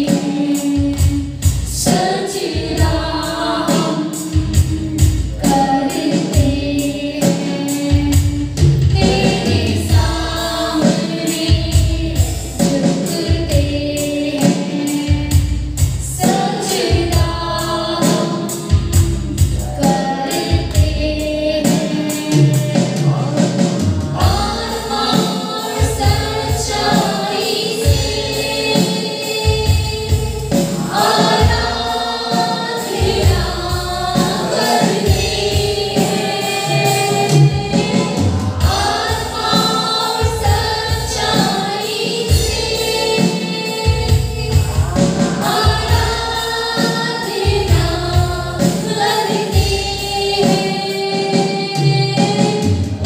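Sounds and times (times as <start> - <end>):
amplified backing music with bass: 0.0 - 53.0
women singing into microphones: 0.0 - 53.0.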